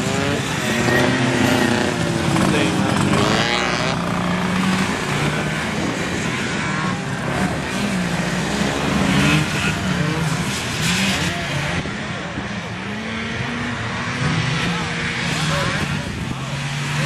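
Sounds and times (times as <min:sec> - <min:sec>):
snowmobile engines racing: 0:00.0 - 0:17.0.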